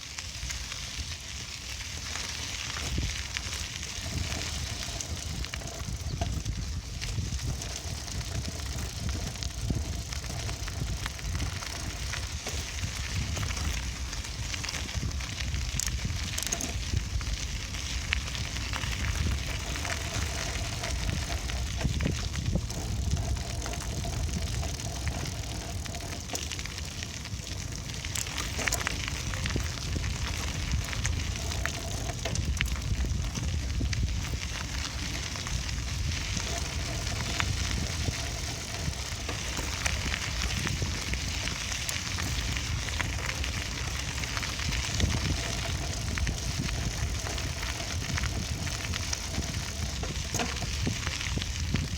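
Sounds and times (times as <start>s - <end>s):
bicycle tyres rolling on path: 0.0s - 51.9s
bike clicks and rattles: 0.0s - 51.9s
wind rumbling on microphone: 0.0s - 51.9s.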